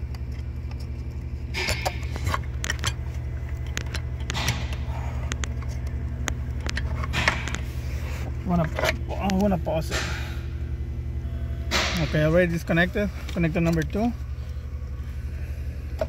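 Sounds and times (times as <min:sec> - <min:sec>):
vehicle engine low rumble: 0:00.0 - 0:16.0.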